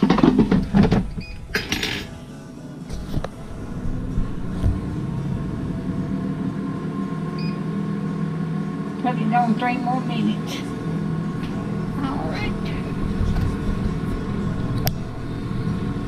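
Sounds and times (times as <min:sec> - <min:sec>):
air fryer fan humming: 0:00.0 - 0:16.0.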